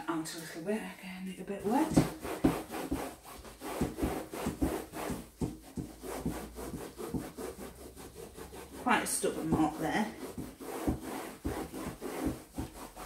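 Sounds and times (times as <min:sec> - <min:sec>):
cloth scrubbing vinyl case: 0:00.0 - 0:13.0.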